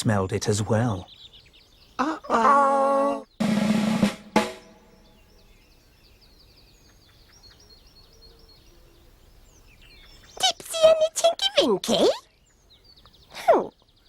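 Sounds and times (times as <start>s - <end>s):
faint birdsong chirps: 0.0s - 14.0s.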